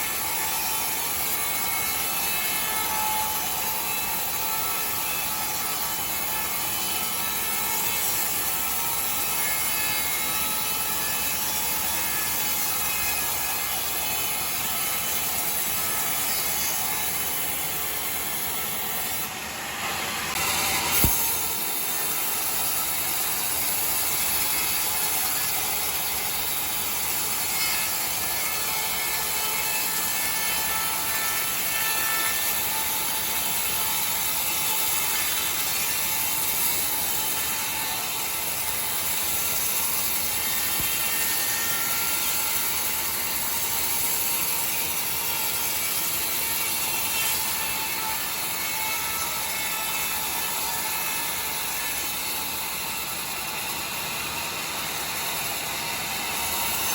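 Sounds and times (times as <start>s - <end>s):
sawmill saw cutting timber: 0.0s - 56.9s.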